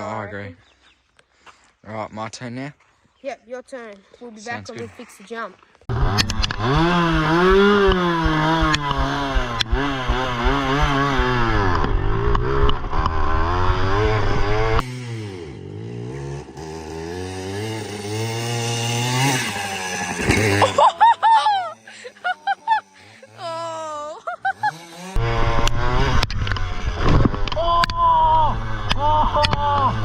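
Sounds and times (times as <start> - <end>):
pit bike engine revving: 5.9 - 30.0.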